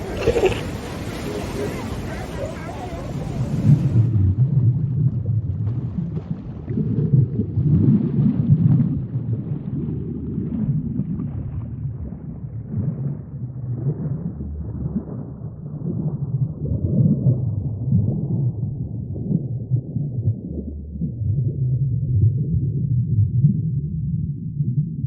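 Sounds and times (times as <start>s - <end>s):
deep muffled rumbling: 1.6s - 25.0s.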